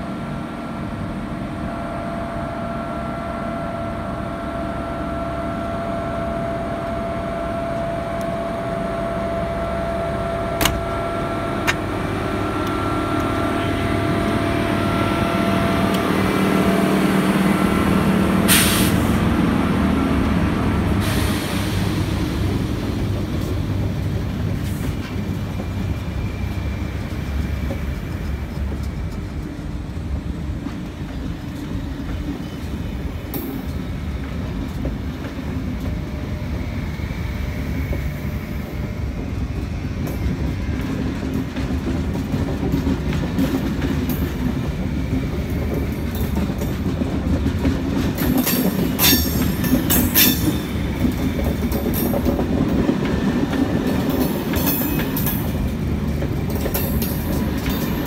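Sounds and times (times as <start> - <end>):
electric locomotive humming: 0.0 - 58.0
train wheels rumbling on rail: 0.0 - 58.0.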